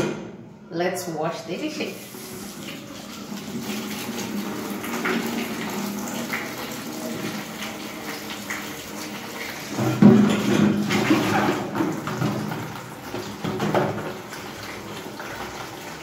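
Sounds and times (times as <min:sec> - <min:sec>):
tap water running into a basin: 0:01.8 - 0:16.0
hands washing dishes: 0:02.0 - 0:16.0.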